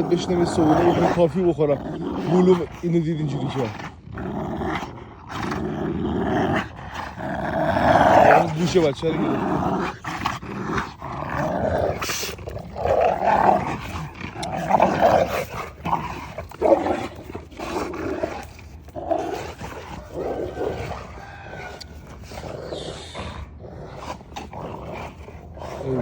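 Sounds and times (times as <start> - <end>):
dogs growling while fighting: 0.0 - 26.0.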